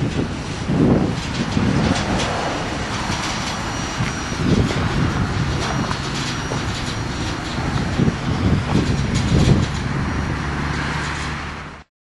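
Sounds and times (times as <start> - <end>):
train cars rolling on rails: 0.0 - 11.9
wheels clicking over rail joints: 0.0 - 11.9.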